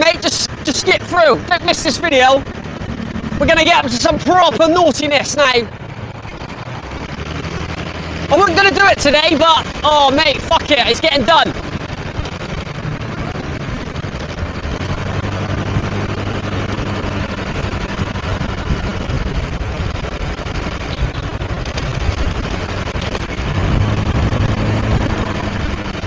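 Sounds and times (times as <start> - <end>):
motorbike engine running: 0.0 - 26.0
wind and road noise: 0.0 - 26.0.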